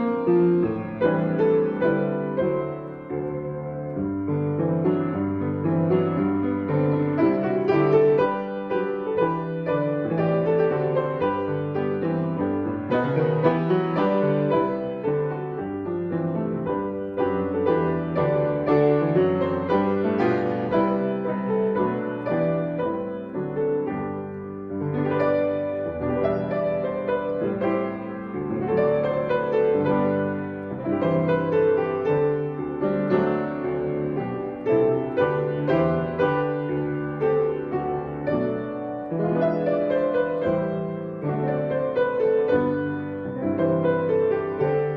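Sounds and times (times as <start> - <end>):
slow gentle piano piece: 0.0 - 44.9.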